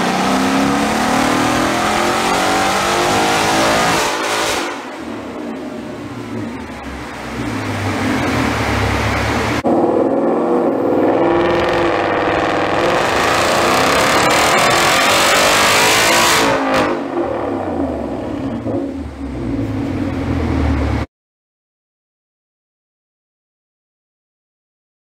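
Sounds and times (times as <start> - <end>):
engine revving at full throttle: 0.0 - 21.1.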